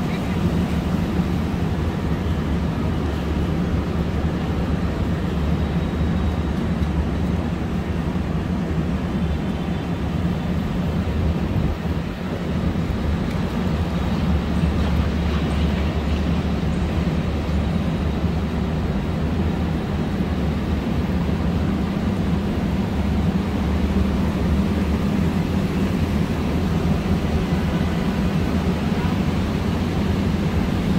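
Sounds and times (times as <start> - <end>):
city noise: 0.0 - 30.9
low traffic rumble: 0.0 - 30.9.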